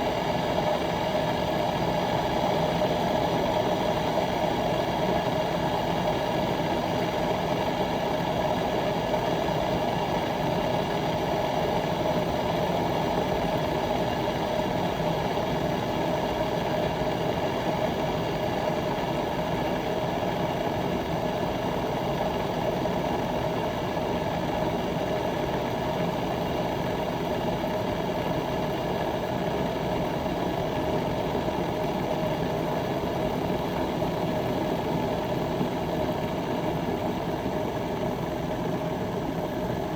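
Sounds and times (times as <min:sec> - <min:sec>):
electric kettle heating water: 0:00.0 - 0:39.9.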